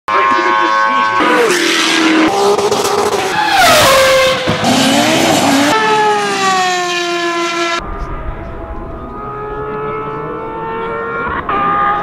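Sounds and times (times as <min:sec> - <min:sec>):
racing car engines: 0:00.1 - 0:12.0.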